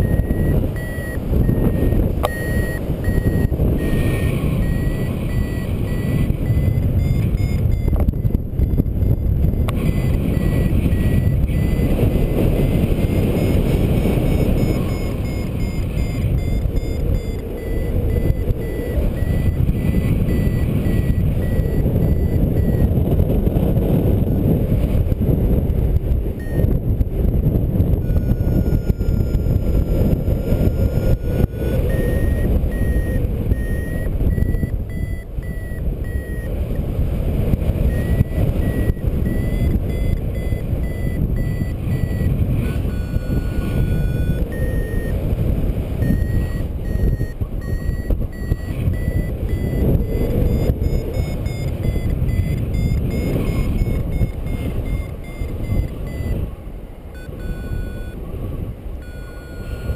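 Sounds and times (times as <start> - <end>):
low steady tone: 0.0 - 24.7, 27.9 - 36.8, 37.7 - 59.9
variometer beeps: 0.0 - 59.9
wind on microphone: 0.0 - 59.9.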